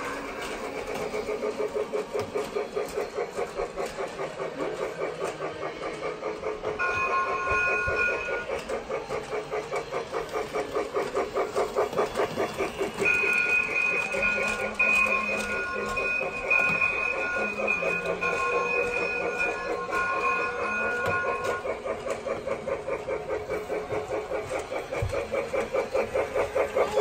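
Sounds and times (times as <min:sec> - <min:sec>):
toy train steam chuffing: 0:00.0 - 0:27.0.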